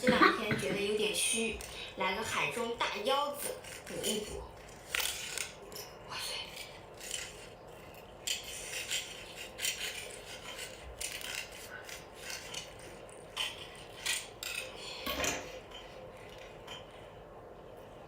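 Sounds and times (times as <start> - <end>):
utensils scraping and clicking: 0.5 - 17.2.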